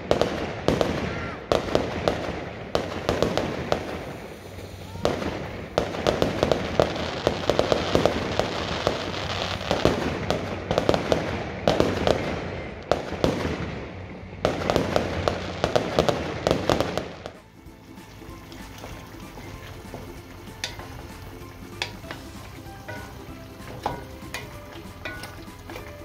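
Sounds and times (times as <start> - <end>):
fireworks cracking and banging: 0.0 - 26.0.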